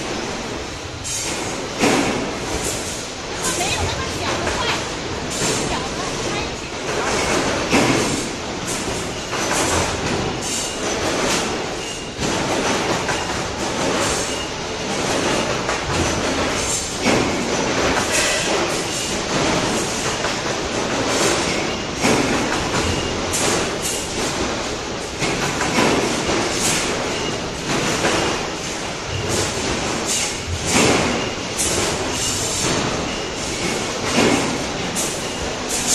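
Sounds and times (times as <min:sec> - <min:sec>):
continuous machine noise: 0:00.0 - 0:35.9
metallic clanks and knocks: 0:01.0 - 0:35.9.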